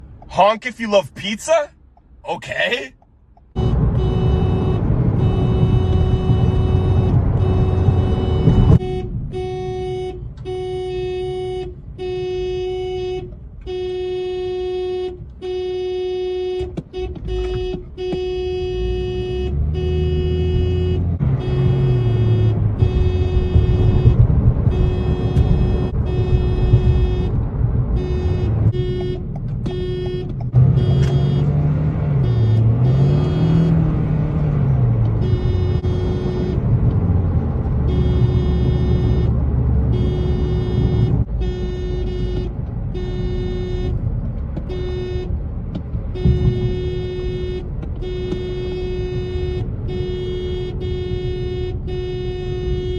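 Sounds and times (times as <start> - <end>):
car horn honking: 3.6 - 34.2, 35.1 - 36.7, 37.8 - 45.4, 46.1 - 52.9.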